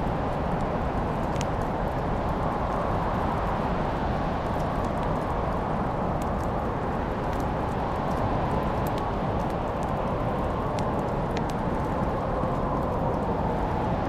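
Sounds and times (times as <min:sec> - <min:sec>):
fire crackles and pops: 0:00.0 - 0:14.0
wood fire rushing: 0:00.0 - 0:14.0.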